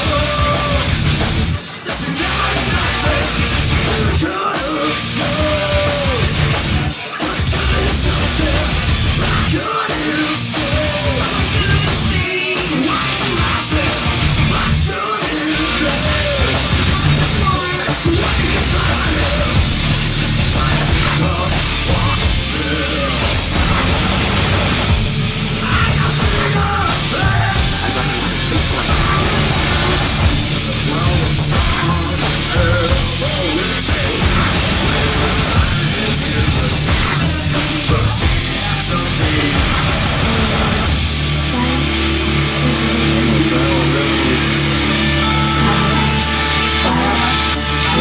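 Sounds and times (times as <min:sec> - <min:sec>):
low bass notes: 0:00.0 - 0:01.6, 0:02.2 - 0:48.0
distorted electric guitars: 0:00.0 - 0:48.0
live heavy rock band playing: 0:00.0 - 0:48.0.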